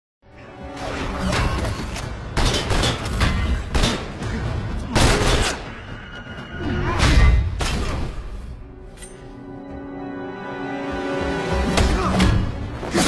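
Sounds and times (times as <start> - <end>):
film score: 0.2 - 13.0.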